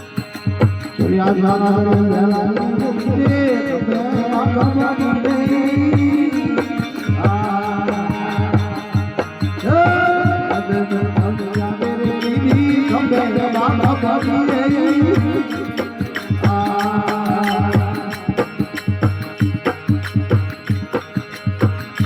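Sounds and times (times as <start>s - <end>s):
hand drum beat: 0.0s - 22.0s.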